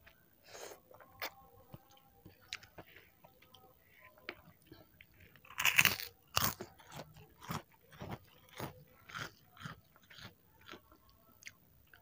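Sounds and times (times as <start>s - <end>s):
chewing crunchy cracker: 0.7s - 12.0s.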